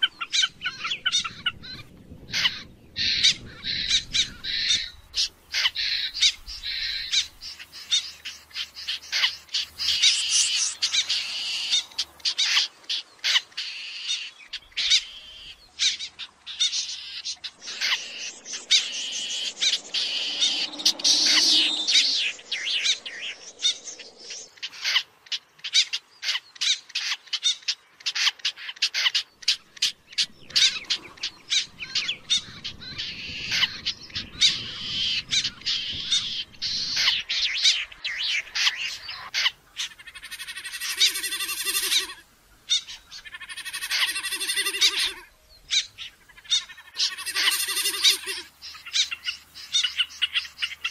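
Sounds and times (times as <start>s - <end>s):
snipe calling: 2.3s - 25.0s, 25.8s - 50.9s.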